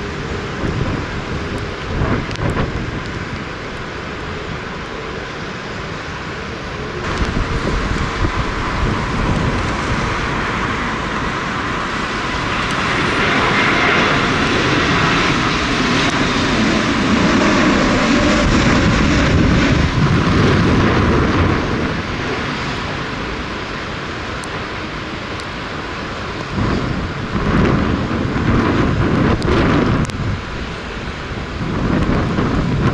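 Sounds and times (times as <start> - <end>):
jet airliner engine roar: 0.0 - 32.9
wind rumbling on microphone: 0.0 - 32.9.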